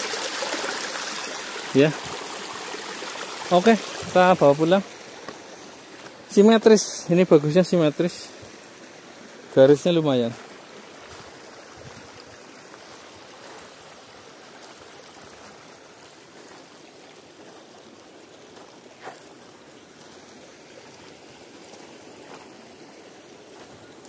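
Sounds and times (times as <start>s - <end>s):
river water flowing over stones: 0.0s - 24.0s.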